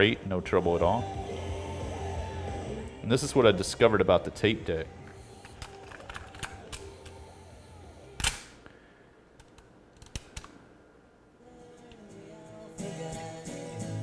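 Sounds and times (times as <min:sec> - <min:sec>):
faint music from tape: 0:00.0 - 0:08.9, 0:11.3 - 0:14.0.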